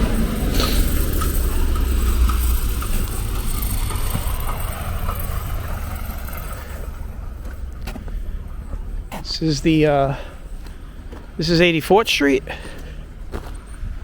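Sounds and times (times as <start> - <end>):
fire engine motor running: 0.0 - 14.0.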